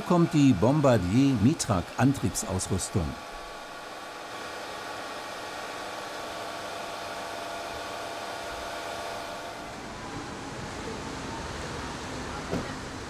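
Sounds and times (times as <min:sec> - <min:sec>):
fan whir and hiss: 0:00.0 - 0:13.0.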